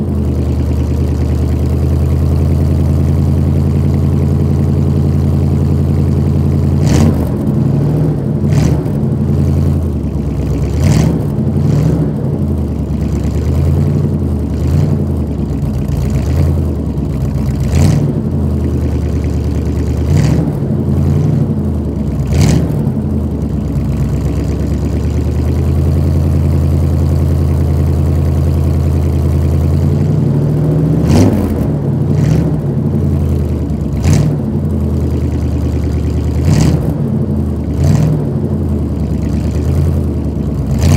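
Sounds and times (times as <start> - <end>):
pickup engine idling and revving: 0.0 - 40.9.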